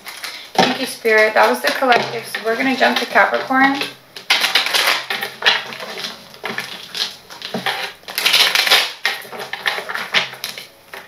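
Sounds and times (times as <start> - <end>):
cards shuffling: 0.0 - 11.0.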